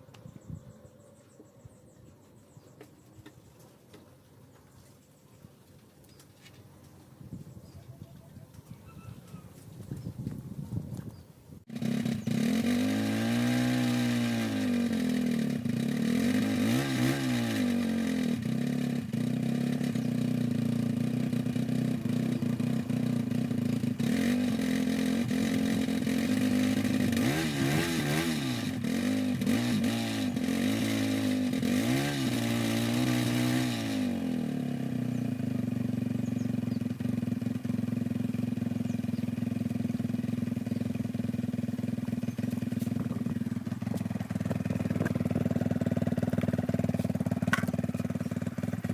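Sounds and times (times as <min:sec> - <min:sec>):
motorcycle engine revving: 0:08.4 - 0:48.9.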